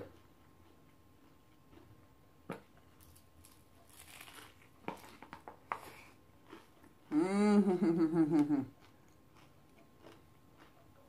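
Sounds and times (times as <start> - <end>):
crunching and chewing taco shell: 0.0 - 7.1, 8.3 - 11.0.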